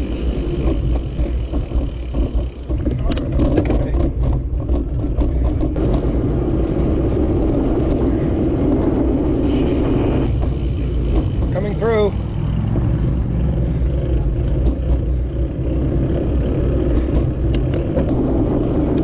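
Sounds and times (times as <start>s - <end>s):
bicycle road noise: 0.0s - 19.0s
wind rumble: 0.0s - 19.0s.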